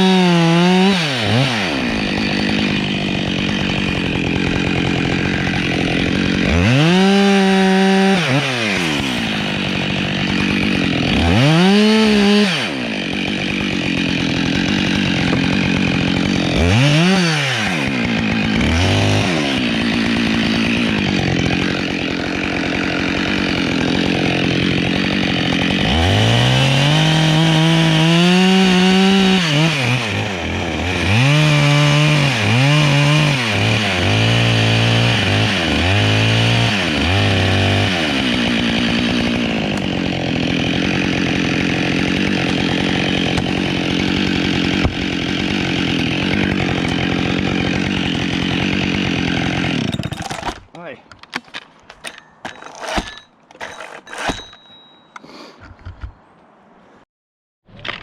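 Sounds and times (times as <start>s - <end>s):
chainsaw idling and revving: 0.0s - 51.0s
chainsaw cutting wood: 0.0s - 54.6s.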